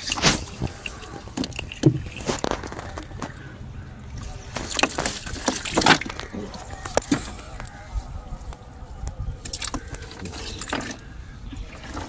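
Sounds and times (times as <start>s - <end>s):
water sloshing: 0.0s - 12.0s.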